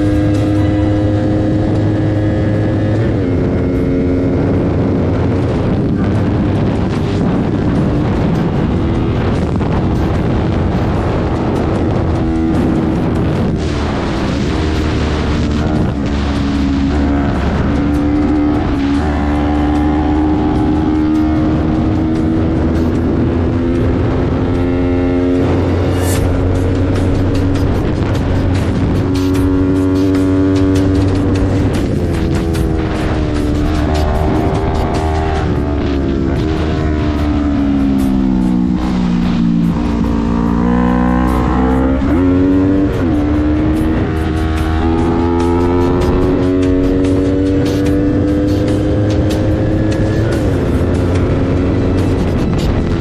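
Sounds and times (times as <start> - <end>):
motorcycle engine running hard: 0.0 - 53.0
road noise: 0.0 - 53.0
wind rush: 0.0 - 53.0.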